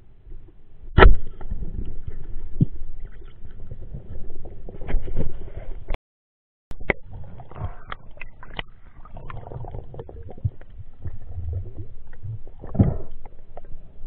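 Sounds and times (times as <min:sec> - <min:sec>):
underwater rumbling water: 0:00.0 - 0:05.9, 0:06.7 - 0:14.0.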